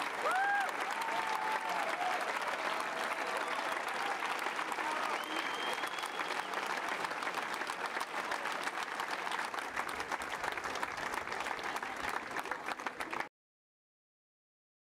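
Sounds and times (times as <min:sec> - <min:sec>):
audience applauding: 0:00.0 - 0:13.3.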